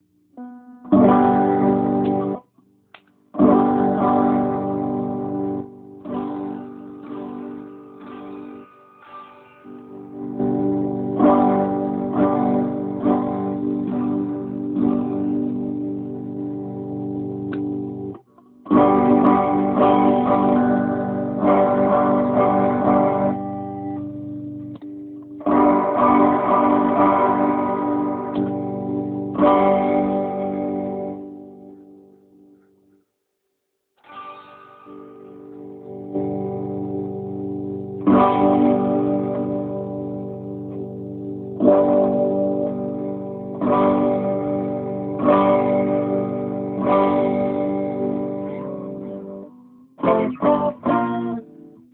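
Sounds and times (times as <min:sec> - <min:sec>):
electric guitar strumming chords: 0:00.0 - 0:02.5, 0:03.3 - 0:32.8, 0:34.0 - 0:51.9.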